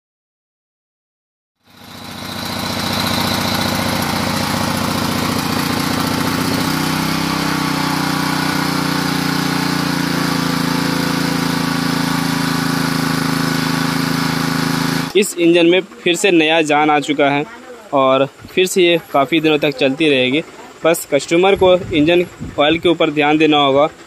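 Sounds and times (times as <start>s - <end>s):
water pump engine running: 1.6s - 24.0s.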